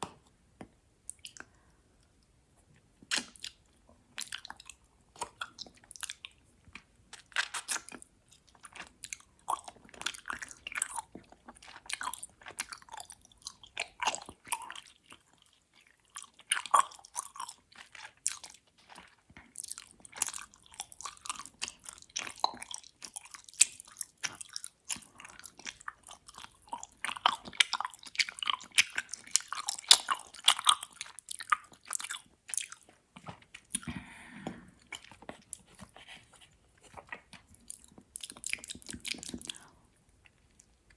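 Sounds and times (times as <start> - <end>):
wet chewing smacks: 3.0 - 34.0, 36.8 - 40.9.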